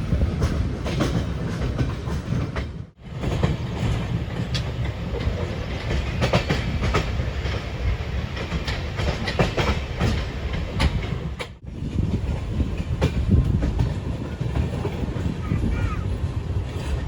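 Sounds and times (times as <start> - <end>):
train rumbling: 0.0 - 17.0
wheels clacking over rail joints: 0.1 - 17.0.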